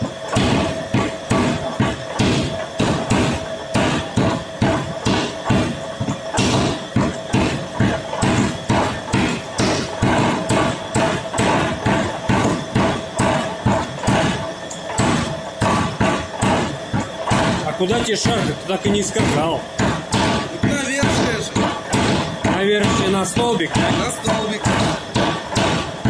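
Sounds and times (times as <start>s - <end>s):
power hammer pounding steel: 0.0s - 26.0s
steady hum: 0.0s - 26.0s.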